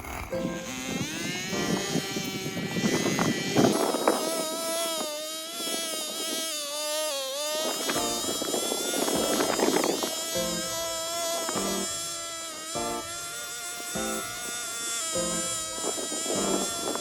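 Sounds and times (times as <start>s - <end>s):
brush cutter engine at high revs: 0.0s - 17.0s.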